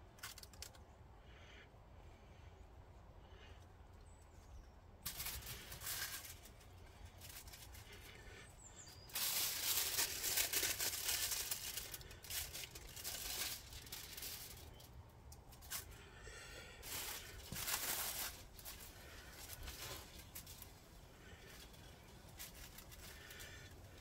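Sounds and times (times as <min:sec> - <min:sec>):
aluminium foil crinkling: 0:00.2 - 0:00.8, 0:05.0 - 0:24.0.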